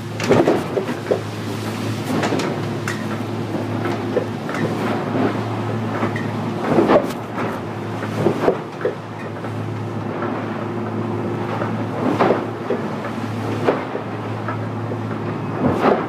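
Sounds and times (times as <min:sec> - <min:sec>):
hull thudding on waves: 0:00.0 - 0:16.0
outboard engines running: 0:00.0 - 0:16.0.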